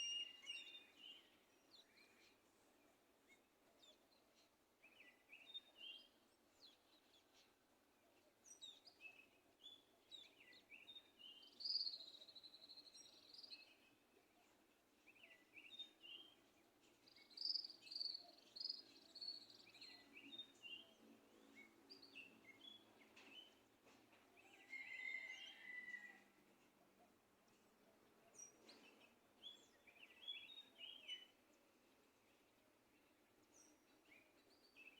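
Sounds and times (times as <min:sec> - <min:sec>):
songbirds chirping and singing: 0:03.3 - 0:34.9.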